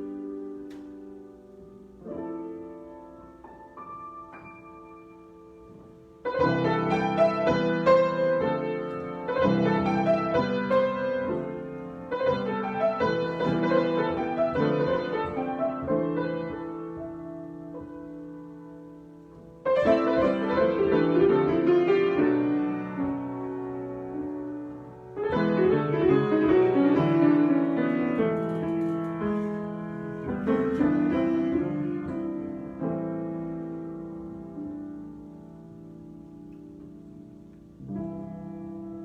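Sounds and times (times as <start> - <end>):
solo piano: 0.0 - 39.0.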